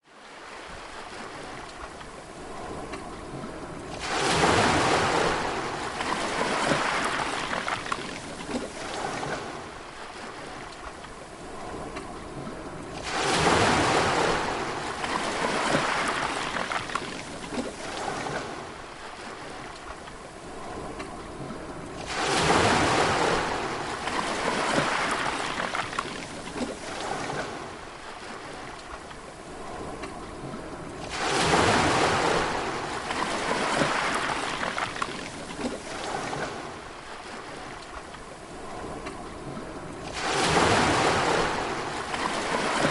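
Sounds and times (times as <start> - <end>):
sea waves breaking: 0.0 - 42.9.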